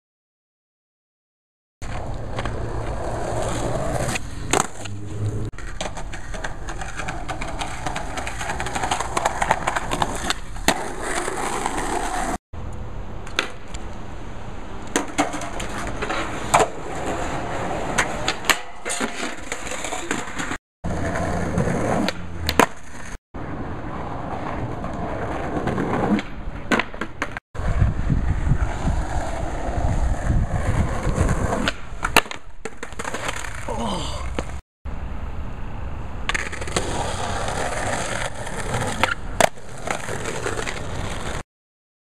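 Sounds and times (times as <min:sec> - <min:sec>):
skateboard clacking on ground: 0:01.8 - 0:14.0, 0:14.8 - 0:23.1, 0:24.2 - 0:27.4, 0:28.6 - 0:34.6, 0:36.2 - 0:41.4
skateboard wheels rolling on asphalt: 0:01.8 - 0:41.4.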